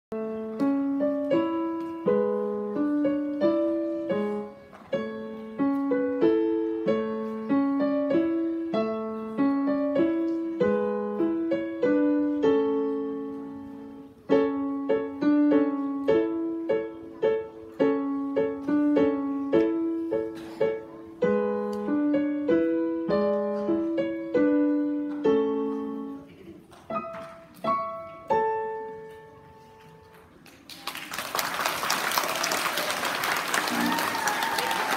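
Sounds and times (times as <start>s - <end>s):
digital piano piece: 0.1s - 30.4s.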